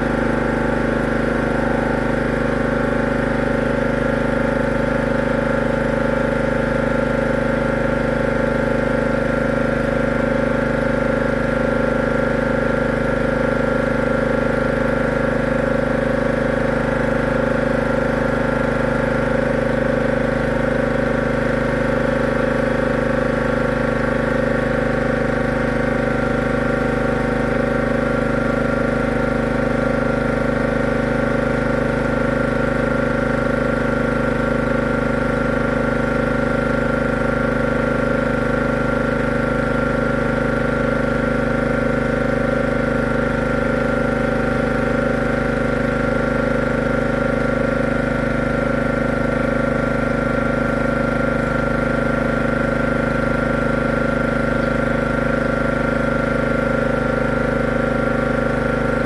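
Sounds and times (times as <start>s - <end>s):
motor-driven machine humming: 0.0s - 49.1s, 49.7s - 59.0s.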